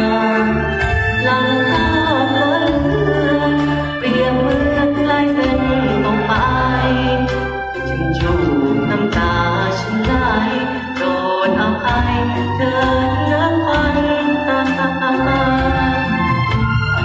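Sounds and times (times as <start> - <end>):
man singing into a microphone: 0.0 - 16.4
bass: 0.0 - 17.0
keyboard chords: 0.0 - 17.0.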